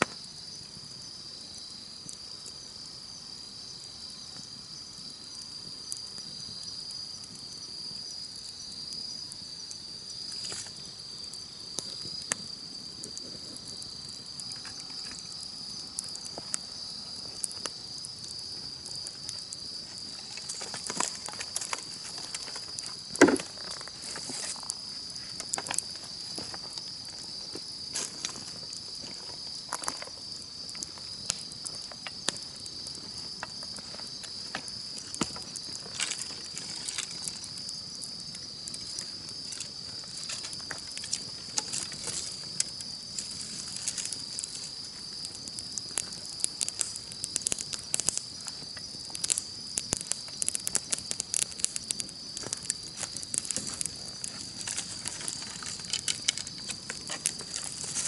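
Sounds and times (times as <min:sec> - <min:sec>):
campfire crackling and popping: 0:00.0 - 0:58.0
insects chirping: 0:00.0 - 0:58.0.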